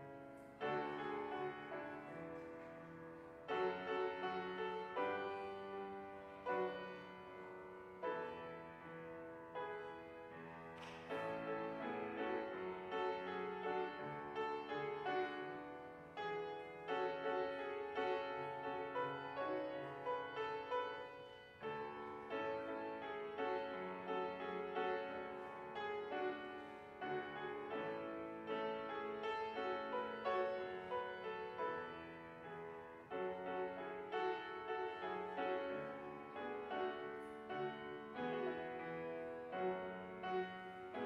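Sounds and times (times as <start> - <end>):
solo piano chords: 0.0 - 41.0.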